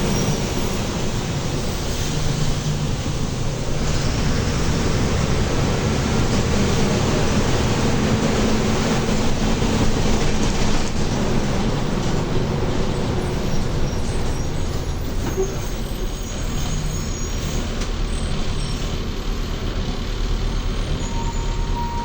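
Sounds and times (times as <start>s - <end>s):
bus diesel engine rumbling: 0.0s - 22.0s
road noise: 0.0s - 22.0s.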